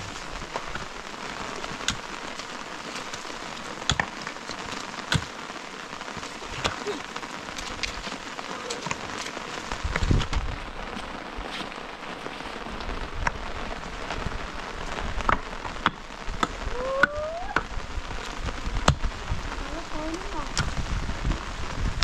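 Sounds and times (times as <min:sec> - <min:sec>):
rain pattering on hard surface: 0:00.0 - 0:22.0.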